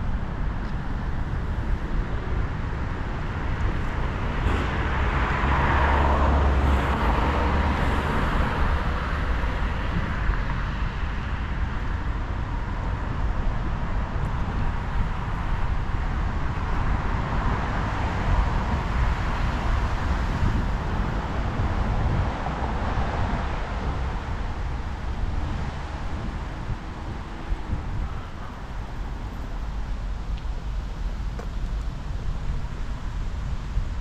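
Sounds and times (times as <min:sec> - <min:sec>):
vehicles passing: 0:00.0 - 0:34.0
wind on the microphone: 0:00.0 - 0:34.0.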